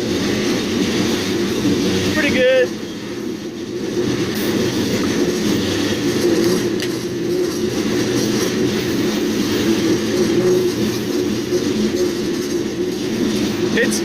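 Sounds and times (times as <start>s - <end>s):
freight train running noise: 0.0s - 14.0s.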